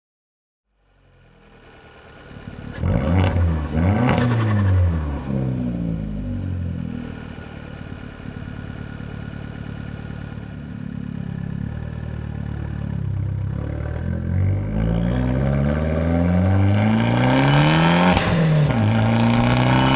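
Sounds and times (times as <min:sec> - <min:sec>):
car engine revving and idling: 0:00.7 - 0:19.9.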